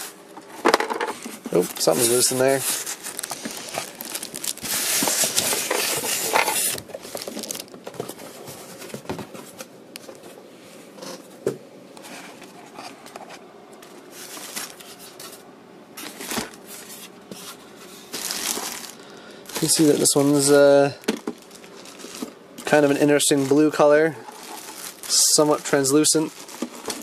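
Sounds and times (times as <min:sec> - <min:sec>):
plastic bag rustling and crinkling: 0:00.0 - 0:10.3, 0:13.9 - 0:15.4, 0:16.0 - 0:27.0.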